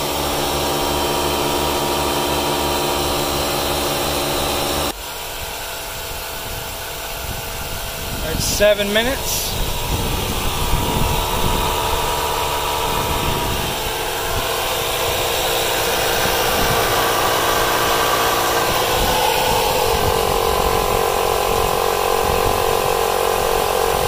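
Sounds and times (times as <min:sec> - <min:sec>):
tire inflators droning: 0:00.0 - 0:24.0.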